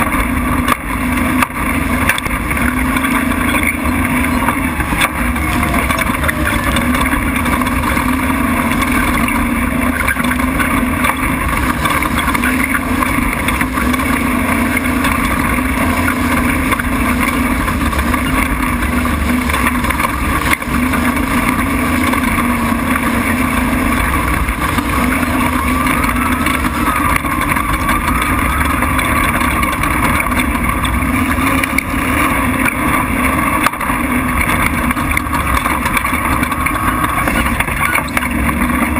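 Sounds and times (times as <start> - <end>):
rumbling road noise: 0.0 - 38.9
truck engine running hard: 0.0 - 38.9
wind: 0.0 - 38.9.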